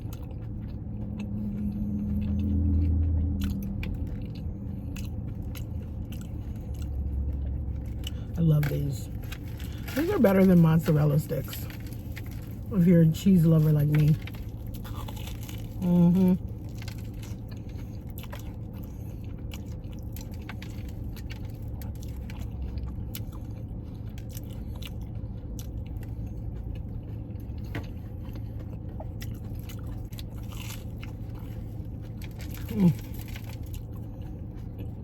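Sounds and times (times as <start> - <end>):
crunchy chewing: 0.0 - 12.8, 13.4 - 35.0
steady low hum: 0.0 - 35.0.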